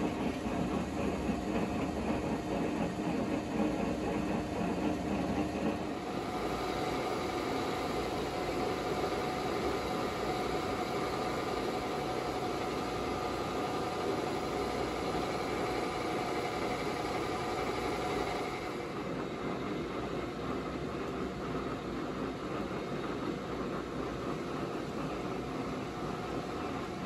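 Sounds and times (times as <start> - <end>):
constant machine whine: 0.0 - 27.0
grinder mechanical rumble: 0.0 - 27.0.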